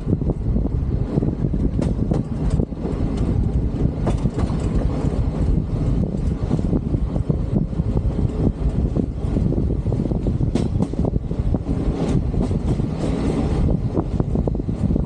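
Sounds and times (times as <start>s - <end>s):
train wheels rumbling on rail: 0.0s - 15.0s
wind buffeting microphone: 0.0s - 15.0s.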